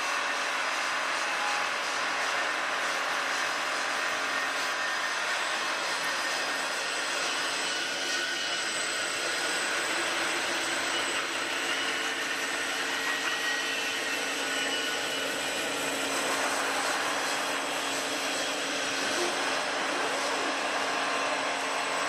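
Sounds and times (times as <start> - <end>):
machinery whirring hum: 0.0 - 22.0.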